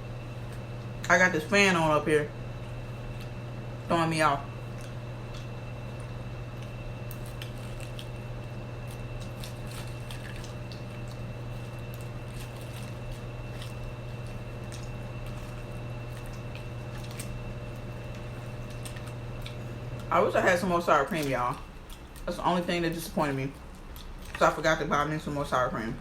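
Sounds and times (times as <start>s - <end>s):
electric fan humming: 0.0s - 26.0s
chewing crunchy food: 2.6s - 3.4s, 4.5s - 24.6s.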